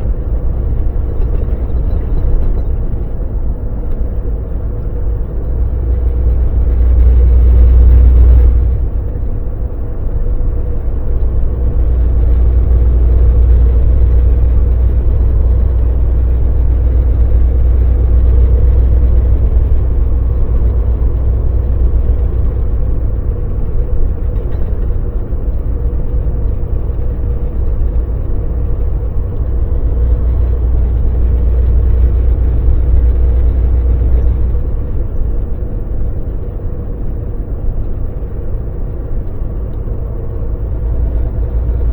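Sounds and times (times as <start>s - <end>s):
truck driving with low rumble: 0.0s - 41.9s.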